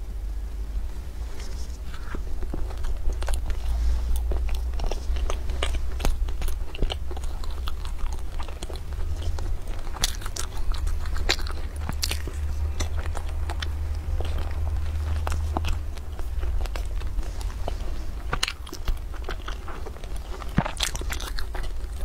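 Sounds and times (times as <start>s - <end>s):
chewing crisp pastry: 0.8s - 22.0s.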